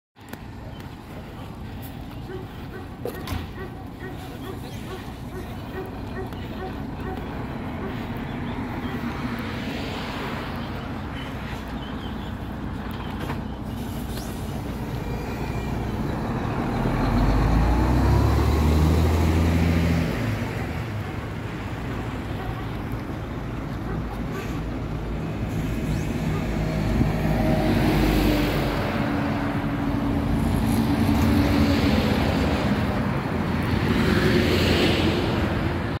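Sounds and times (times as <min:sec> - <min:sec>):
vehicles passing on motorway: 0:00.2 - 0:36.0.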